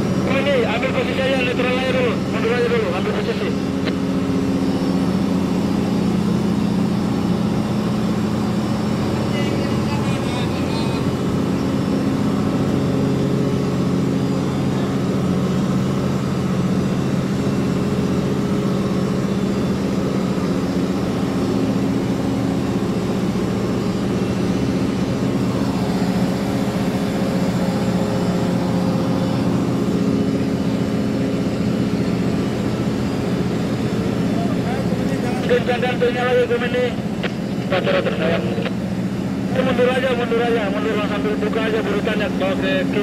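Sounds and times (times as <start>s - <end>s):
diesel engine drone: 0.0s - 43.0s.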